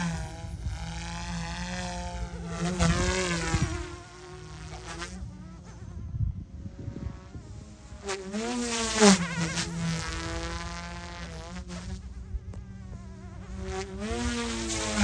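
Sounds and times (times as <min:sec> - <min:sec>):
rc helicopter motor buzzing: 0:00.0 - 0:15.0.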